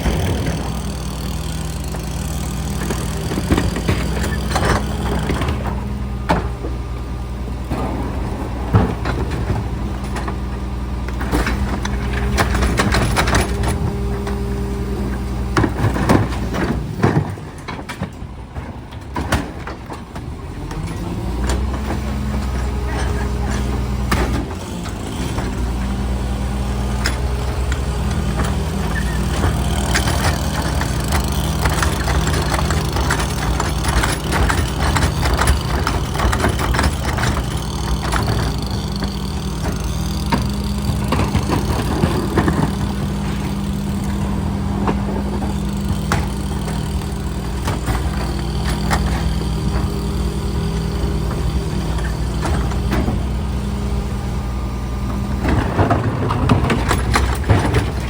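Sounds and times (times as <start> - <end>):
diesel engine idling: 0.0 - 17.6, 20.3 - 58.0
clanks and knocks: 0.0 - 53.8, 55.1 - 58.0.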